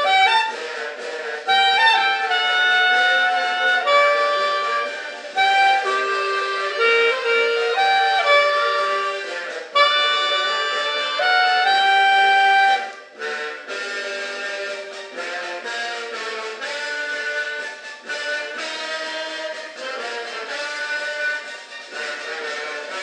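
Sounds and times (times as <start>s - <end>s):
reed instrument melody: 0.0s - 23.0s.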